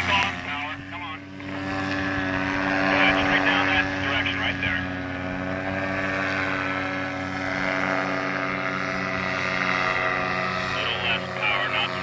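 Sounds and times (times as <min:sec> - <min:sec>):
paramotor engine droning: 0:00.0 - 0:12.0.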